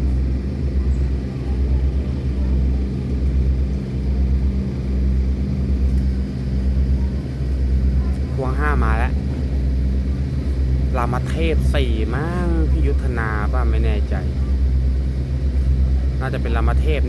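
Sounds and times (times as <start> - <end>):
boat diesel engine droning: 0.0 - 17.0.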